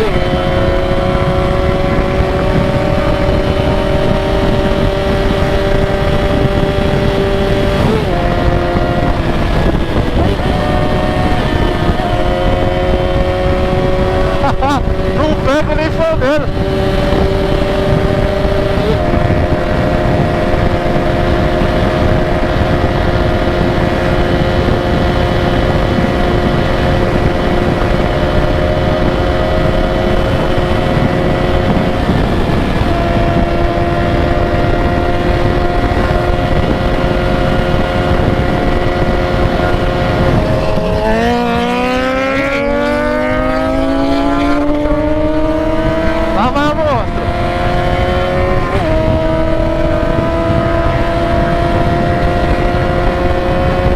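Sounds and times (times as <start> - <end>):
motorcycle engine running: 0.0 - 53.9
steady rushing noise: 0.0 - 53.9.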